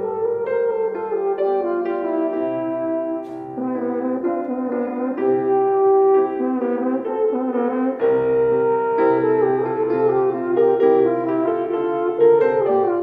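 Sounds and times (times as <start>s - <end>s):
french horn melody: 0.0s - 13.0s
grand piano: 0.0s - 13.0s.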